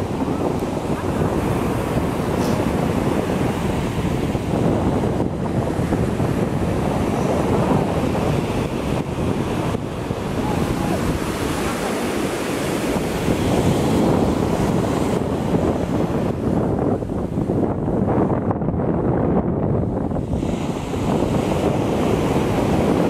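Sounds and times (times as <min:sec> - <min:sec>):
surf breaking on beach: 0:00.0 - 0:18.4, 0:19.8 - 0:23.0
wind buffeting microphone: 0:00.0 - 0:23.0.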